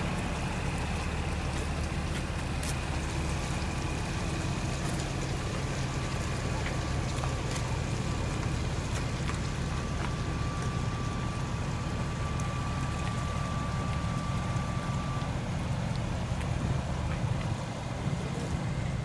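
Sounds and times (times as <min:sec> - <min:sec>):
heavy vehicle engine rumbling: 0:00.0 - 0:19.0
thin steady whine: 0:00.0 - 0:19.0.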